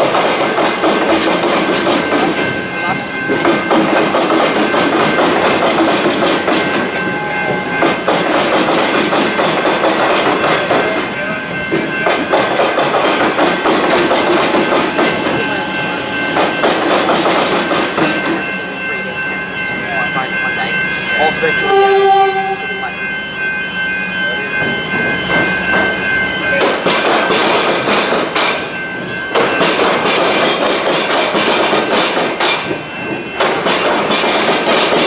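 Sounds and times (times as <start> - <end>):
train wheels clacking over rail joints: 0.0 - 23.0, 24.6 - 35.0.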